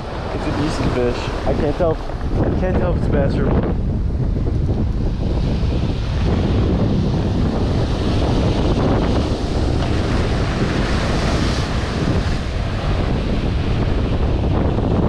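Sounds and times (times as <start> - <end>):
surf breaking on rocks: 0.0 - 3.8, 4.6 - 15.0
wind buffeting microphone: 0.0 - 15.0.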